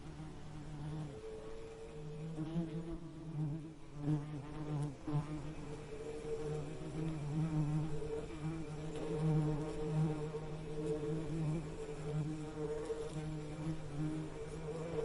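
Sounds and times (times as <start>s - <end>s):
bee buzzing: 0.0s - 15.0s.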